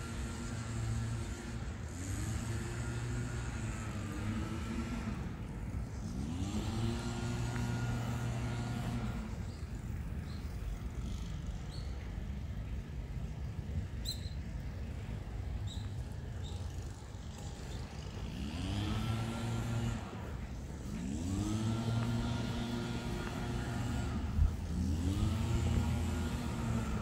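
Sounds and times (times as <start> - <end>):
cars passing: 0.0 - 13.2, 14.8 - 27.0
street background noise: 0.0 - 27.0.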